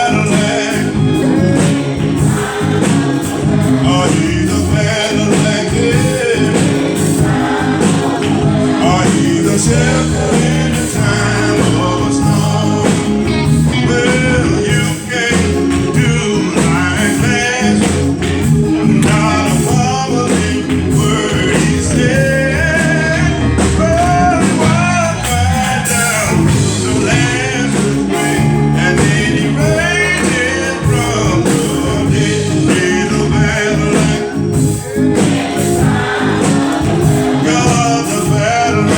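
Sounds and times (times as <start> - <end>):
band playing steady beat: 0.0 - 38.9
people singing: 0.0 - 38.9.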